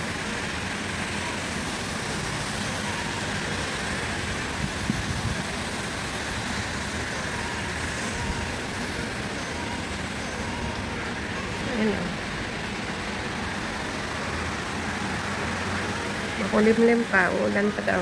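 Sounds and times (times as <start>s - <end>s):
traffic and street noise: 0.0s - 18.0s.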